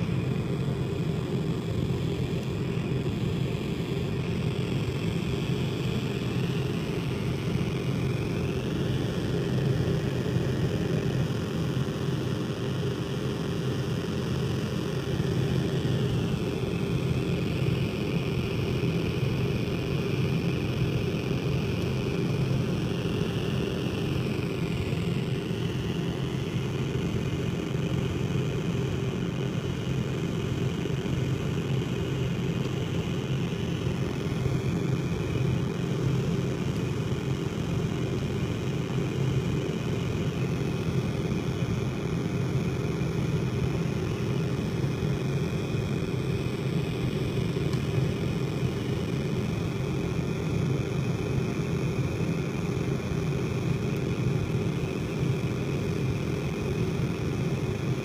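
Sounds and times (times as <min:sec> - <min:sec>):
low synthesizer drone: 0:00.0 - 0:58.0.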